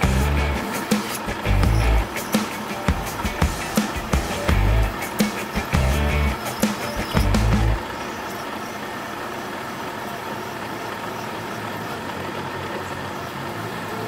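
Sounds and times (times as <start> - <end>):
milling machine drilling steel: 0.0 - 14.0.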